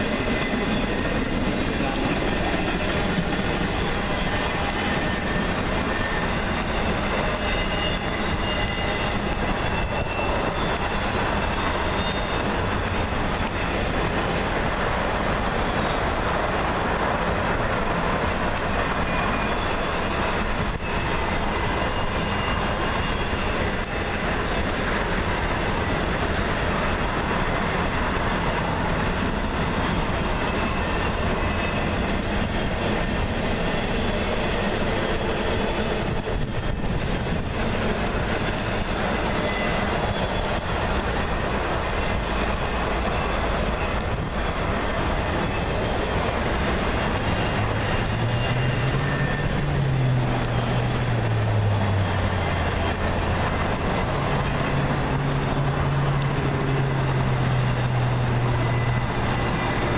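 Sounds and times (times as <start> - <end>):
freight train cars rolling: 0.0 - 59.9
high wheel squeal: 0.1 - 12.8, 13.5 - 17.0, 18.6 - 59.9.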